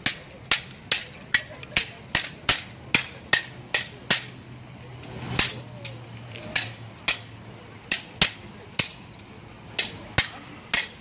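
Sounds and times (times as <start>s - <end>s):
sticks clacking on sticks and shields: 0.0s - 11.0s.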